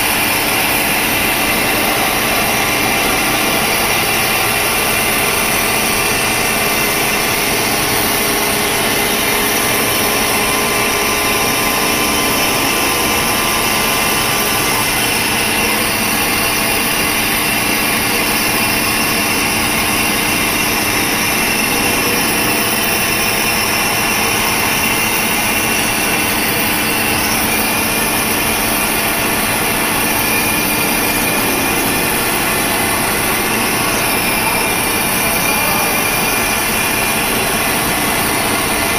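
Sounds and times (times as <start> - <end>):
milling machine cutting steel: 0.0 - 38.9.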